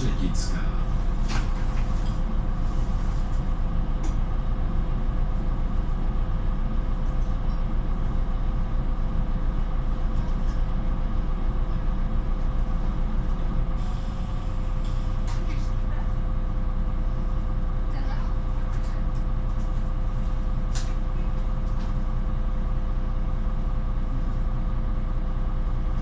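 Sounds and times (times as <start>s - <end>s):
bus engine rumble: 0.0s - 26.0s
steady hum: 0.0s - 26.0s.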